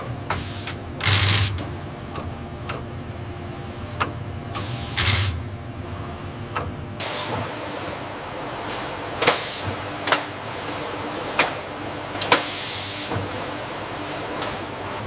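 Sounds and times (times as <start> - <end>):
factory machinery hiss and hum: 0.0 - 15.0.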